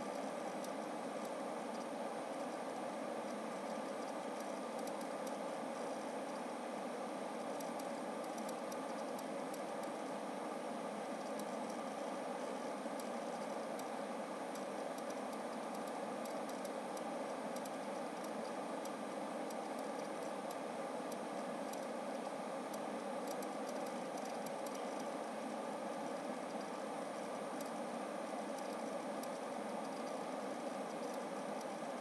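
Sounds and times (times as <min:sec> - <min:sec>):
hard drive clicking: 0:00.0 - 0:06.5, 0:07.3 - 0:10.2, 0:11.2 - 0:32.0.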